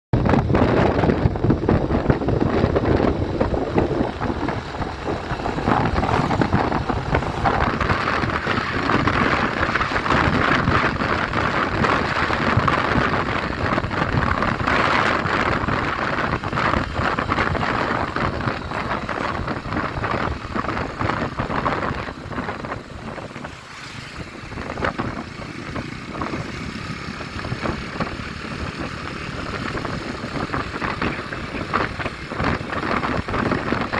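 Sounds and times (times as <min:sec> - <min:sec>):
wind buffeting microphone: 0:00.1 - 0:33.9
car driving noise: 0:00.2 - 0:33.9.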